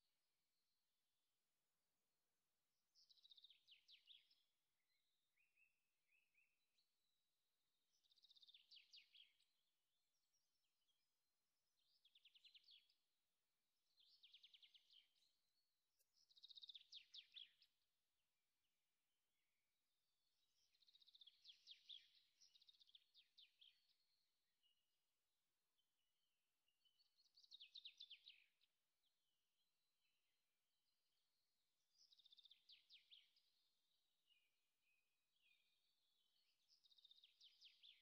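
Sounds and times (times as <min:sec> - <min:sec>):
faint trilled birdsong: 0:00.0 - 0:38.0.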